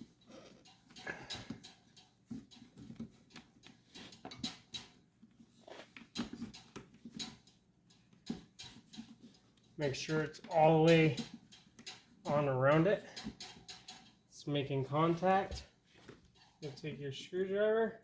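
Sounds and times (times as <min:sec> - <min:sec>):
hands clicking and rustling parts: 0:00.0 - 0:17.4.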